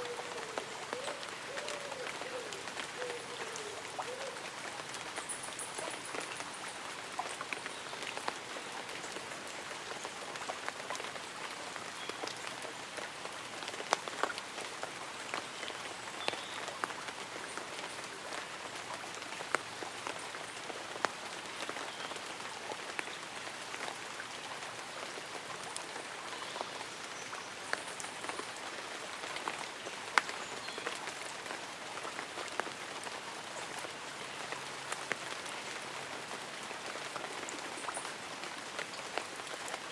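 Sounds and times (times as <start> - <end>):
light rain on leaves and umbrella: 0.0 - 39.9.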